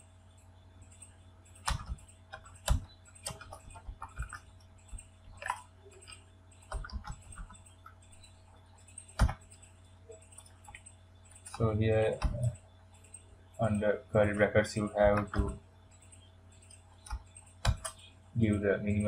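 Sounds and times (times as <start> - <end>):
faint low hum: 0.0 - 19.0
keyboard typing: 0.0 - 19.0.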